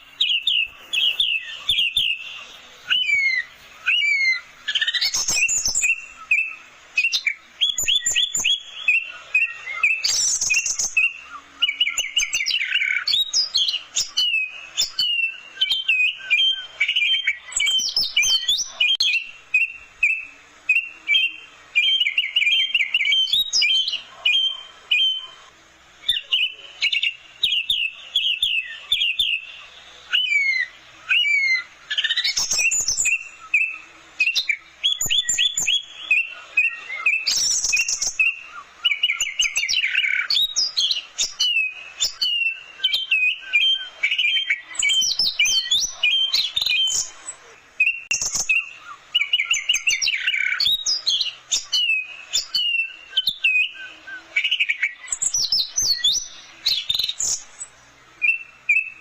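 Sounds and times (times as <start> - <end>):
thrush singing whistles and trills: 0.0 - 59.0.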